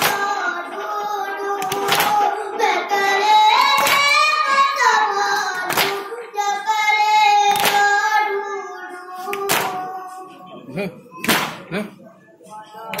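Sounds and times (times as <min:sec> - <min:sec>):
boy singing lament: 0:00.0 - 0:11.1.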